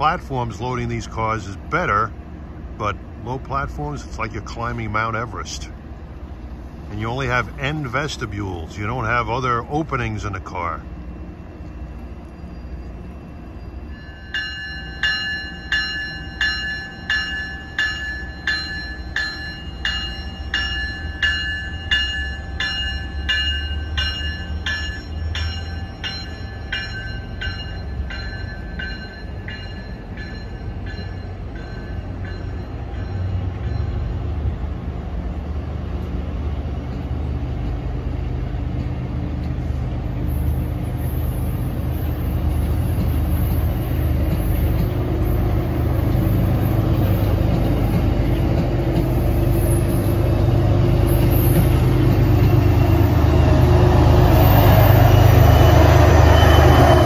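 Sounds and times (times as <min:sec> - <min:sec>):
diesel locomotive: 0:00.0 - 0:57.0
train wheels rumbling on rails: 0:00.0 - 0:57.0.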